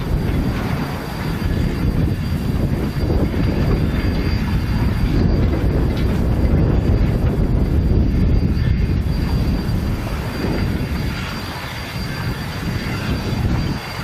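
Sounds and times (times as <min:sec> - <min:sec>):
train cars rolling on track: 0:00.0 - 0:14.0.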